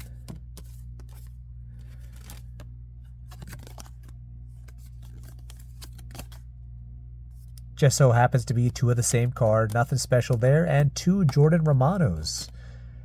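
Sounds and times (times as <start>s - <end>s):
cards sliding and rustling: 0.0s - 6.4s, 7.3s - 12.6s
steady low hum: 0.0s - 13.0s.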